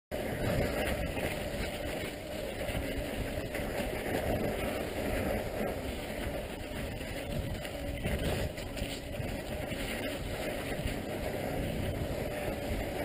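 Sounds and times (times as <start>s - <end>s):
wind on camera microphone: 0.1s - 13.0s.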